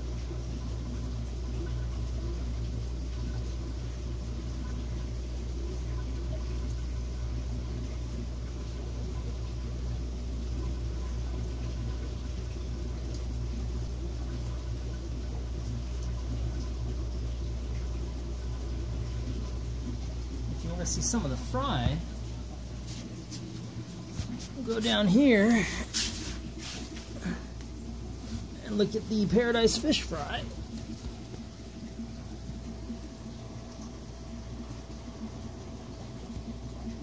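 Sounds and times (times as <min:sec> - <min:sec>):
bubbling tank water: 0:00.0 - 0:37.0
low electrical hum: 0:00.0 - 0:37.0.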